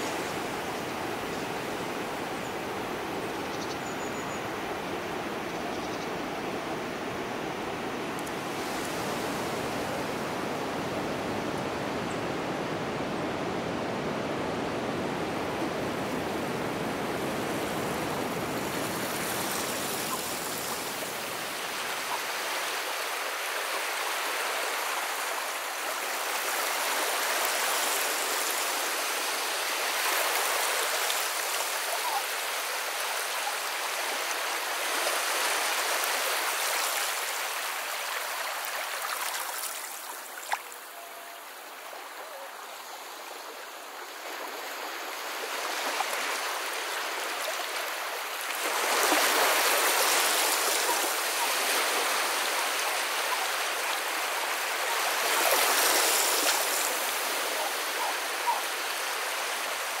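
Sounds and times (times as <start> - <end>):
running water rushing: 0.0 - 60.0.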